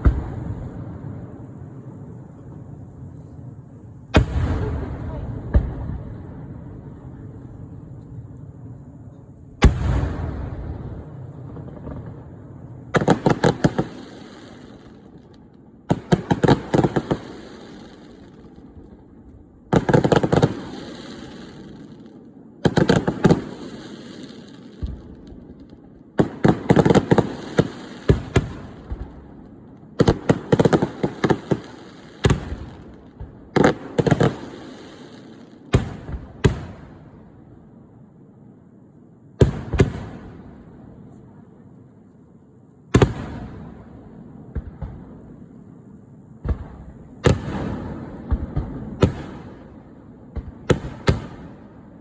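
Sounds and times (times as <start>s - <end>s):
fireworks bangs and crackles: 0.0s - 38.0s, 39.4s - 41.5s, 42.9s - 52.0s
low rumble of fireworks: 0.0s - 52.0s.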